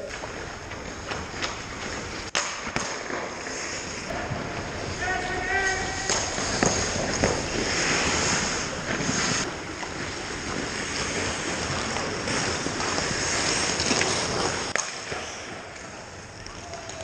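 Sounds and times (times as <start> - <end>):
hockey sticks and puck clacking: 0.0 - 17.0
skates scraping on ice: 0.0 - 17.0.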